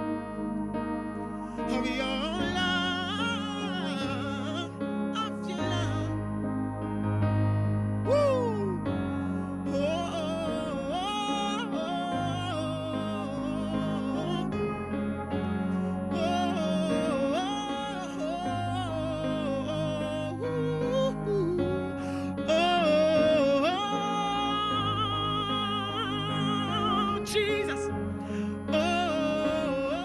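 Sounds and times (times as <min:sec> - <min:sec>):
sustained accompaniment chords: 0:00.0 - 0:30.0
wavering wordless melody: 0:00.0 - 0:30.0.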